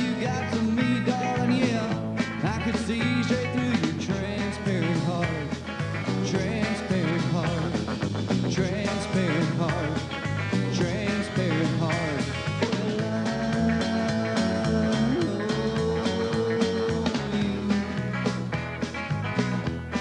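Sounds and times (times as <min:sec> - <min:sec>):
bass and drums: 0:00.0 - 0:20.0
electric lead guitar bending notes: 0:00.0 - 0:20.0.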